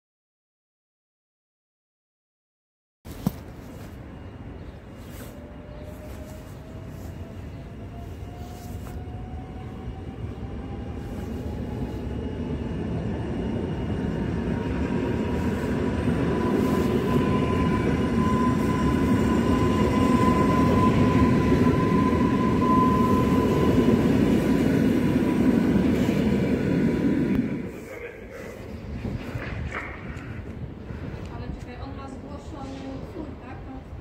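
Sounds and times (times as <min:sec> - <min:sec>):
passenger train rumble: 0:03.1 - 0:34.0.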